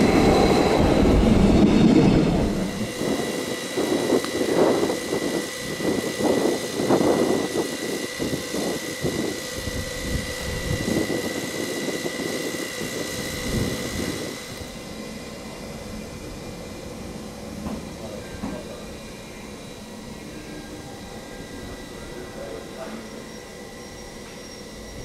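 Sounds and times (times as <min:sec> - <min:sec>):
even hum: 0:00.0 - 0:25.0
locomotive high whine: 0:00.0 - 0:25.0.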